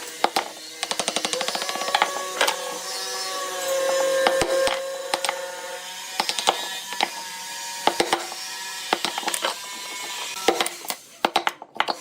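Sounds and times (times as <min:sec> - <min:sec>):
lathe humming: 0:00.0 - 0:11.1.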